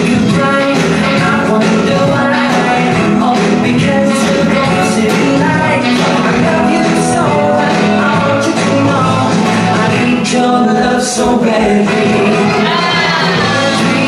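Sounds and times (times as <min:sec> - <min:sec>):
up-tempo song with singer and band: 0:00.0 - 0:14.0.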